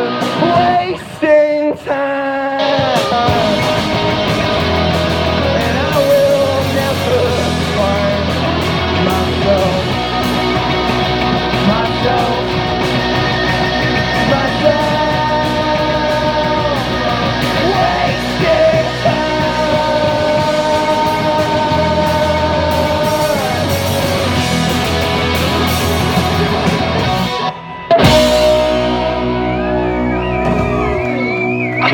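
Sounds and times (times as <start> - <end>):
person singing: 0.0 - 24.8, 26.0 - 31.9
rock band playing live: 0.0 - 31.9.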